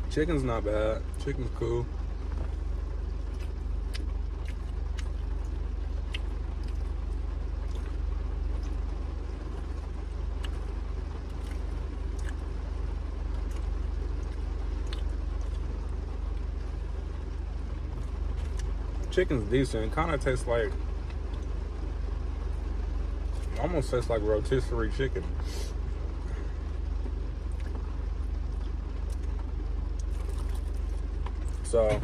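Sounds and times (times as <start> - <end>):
rain on car roof: 0.1 - 32.0.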